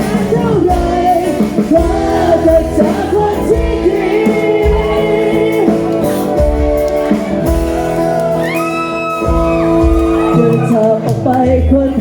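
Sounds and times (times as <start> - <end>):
live band playing: 0.0 - 12.0.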